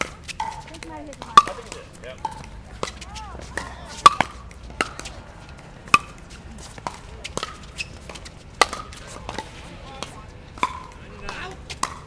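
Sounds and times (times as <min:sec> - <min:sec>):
paddles hitting plastic ball: 0:00.0 - 0:05.2, 0:06.8 - 0:12.0.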